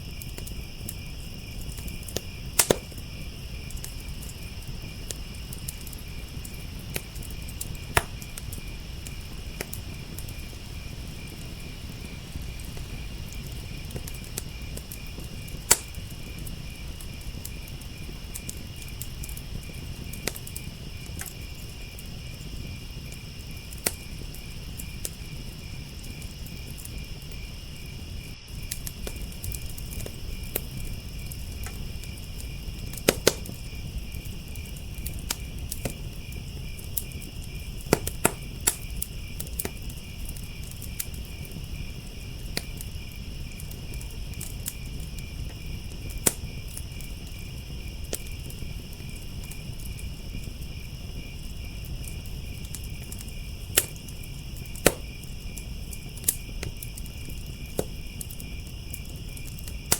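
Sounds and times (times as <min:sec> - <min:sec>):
crickets chirping: 0:00.0 - 0:59.9
wood fire crackling and popping: 0:00.0 - 0:59.9.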